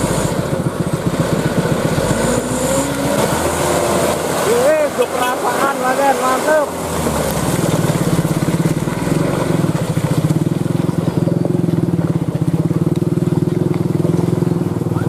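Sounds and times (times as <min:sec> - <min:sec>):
diesel truck engine throbbing: 0:00.0 - 0:15.0.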